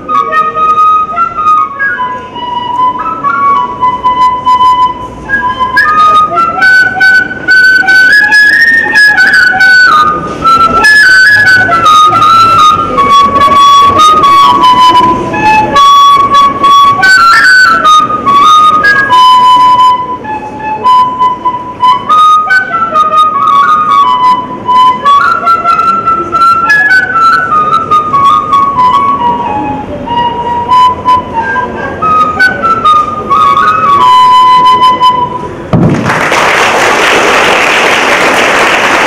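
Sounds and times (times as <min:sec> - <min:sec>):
bamboo flute melody: 0:00.0 - 0:35.7.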